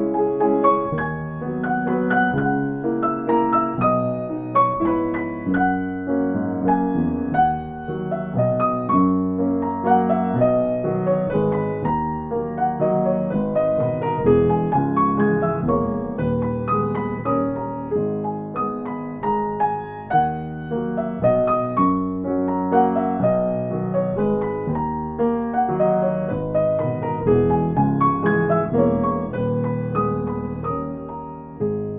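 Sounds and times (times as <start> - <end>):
piano playing: 0.0 - 31.9.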